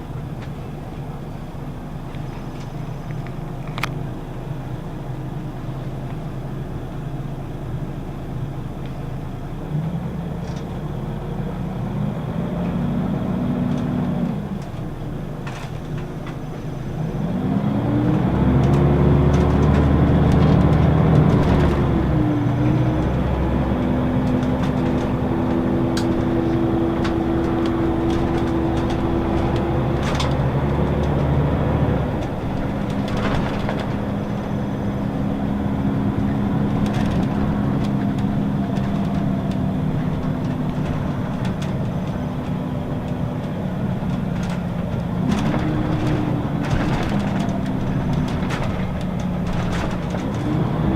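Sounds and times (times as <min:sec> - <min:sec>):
bus engine and gearbox: 0:00.0 - 0:50.9.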